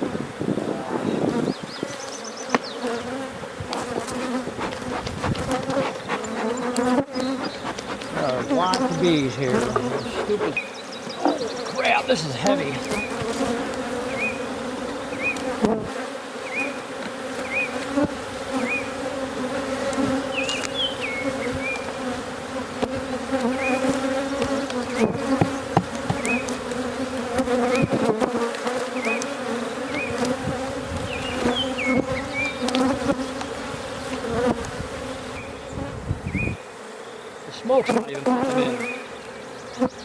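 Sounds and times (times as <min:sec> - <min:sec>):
honey bees buzzing: 0:00.0 - 0:40.0.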